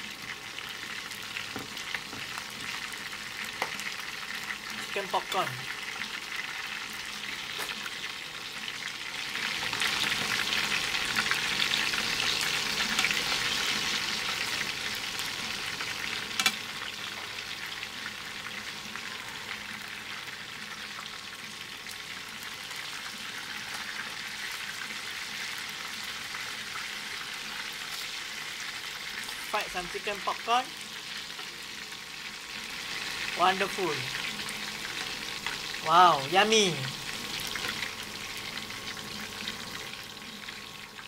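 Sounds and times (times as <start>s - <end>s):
chicken frying in hot oil: 0.0s - 41.0s.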